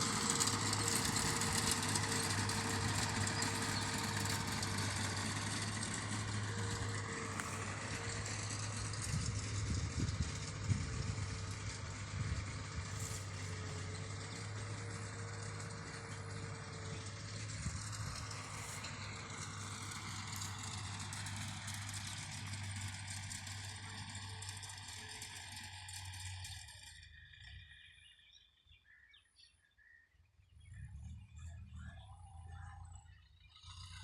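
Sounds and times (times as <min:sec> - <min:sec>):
tractor engine running: 0:00.0 - 0:27.9, 0:30.7 - 0:34.0.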